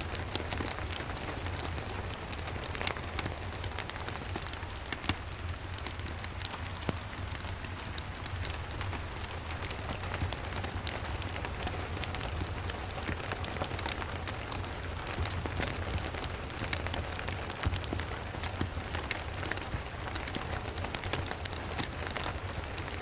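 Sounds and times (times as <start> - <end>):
rain falling: 0.0 - 23.0
wood fire crackling and popping: 0.0 - 23.0.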